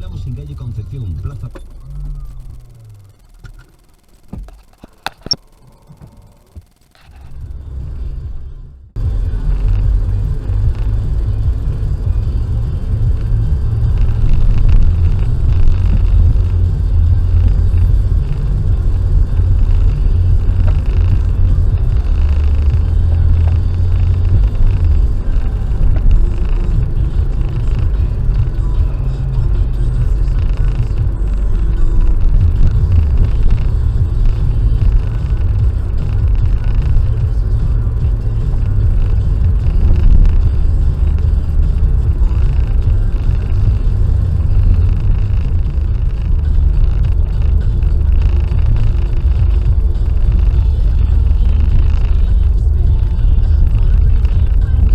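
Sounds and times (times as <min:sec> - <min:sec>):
car driving on motorway: 0:00.0 - 0:54.9.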